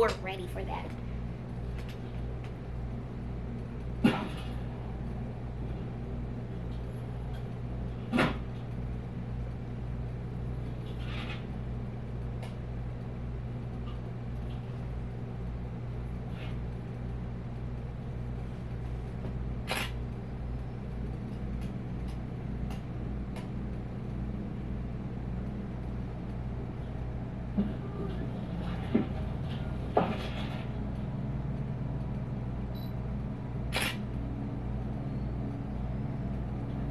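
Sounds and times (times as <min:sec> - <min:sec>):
low droning hum: 0:00.0 - 0:36.9.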